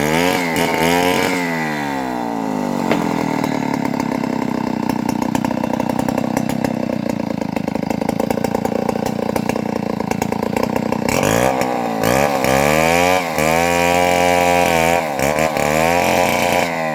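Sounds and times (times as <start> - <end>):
chainsaw engine revving: 0.0 - 16.9.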